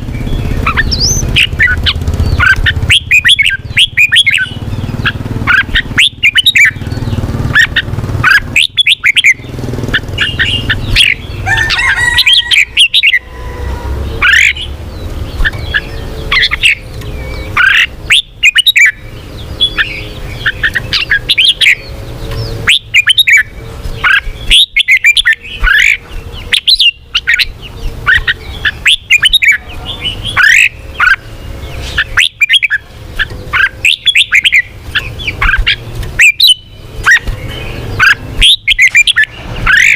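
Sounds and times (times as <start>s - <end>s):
low steady rumble: 0.0s - 39.8s
bird singing whistled notes: 0.0s - 39.9s.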